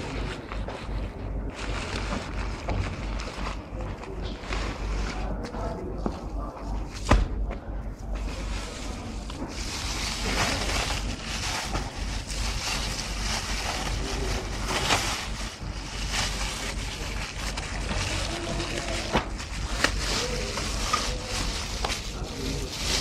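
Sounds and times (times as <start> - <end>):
plastic bag crinkling: 0.0 - 5.8, 8.2 - 23.0.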